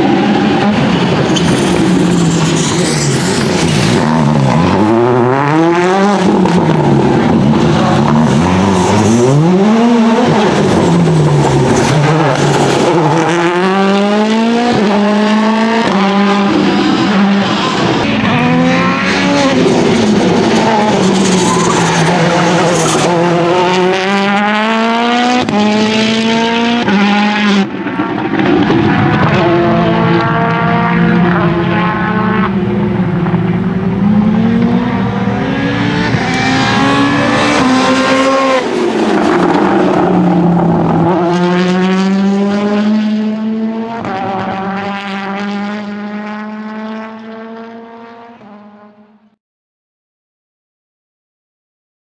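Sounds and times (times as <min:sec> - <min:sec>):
rally car engine running hard: 0:00.0 - 0:27.6, 0:28.3 - 0:49.1.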